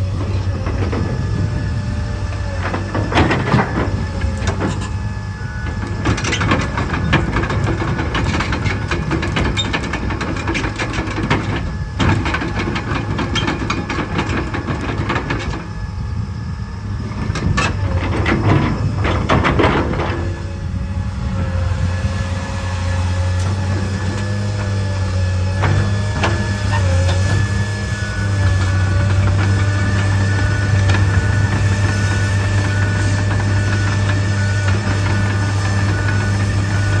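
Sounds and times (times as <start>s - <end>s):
excavator diesel engine hum: 0.0s - 37.0s.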